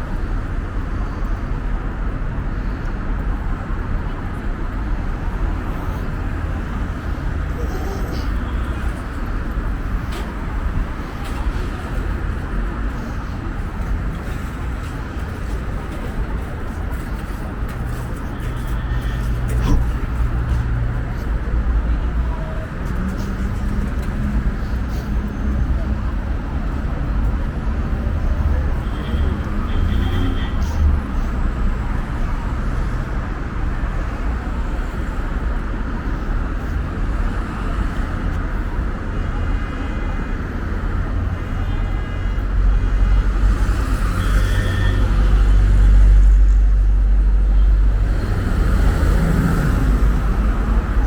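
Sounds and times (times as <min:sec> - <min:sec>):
street traffic rumble: 0:00.0 - 0:51.0.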